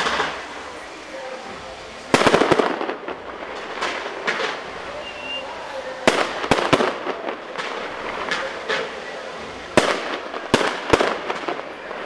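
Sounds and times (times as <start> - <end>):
fireworks bursting with sharp bangs: 0.0 - 12.0.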